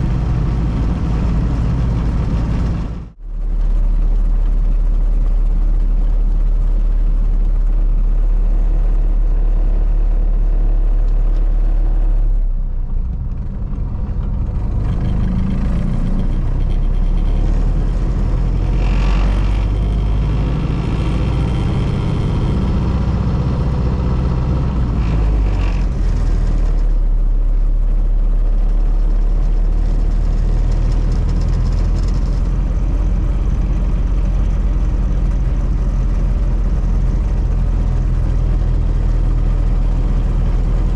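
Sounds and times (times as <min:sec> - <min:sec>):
car engine running: 0:00.0 - 0:40.9
road noise: 0:00.0 - 0:40.9.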